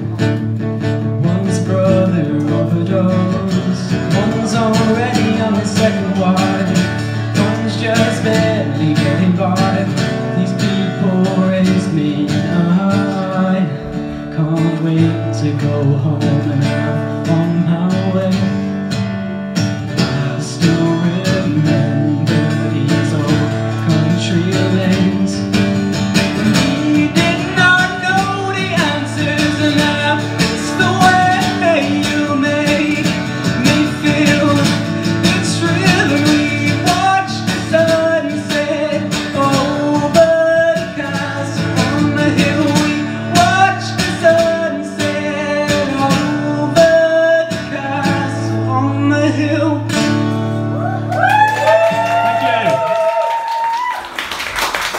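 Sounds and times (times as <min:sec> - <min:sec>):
man singing: 0:00.0 - 0:19.1, 0:19.7 - 0:50.5
strummed acoustic guitar: 0:00.0 - 0:50.9.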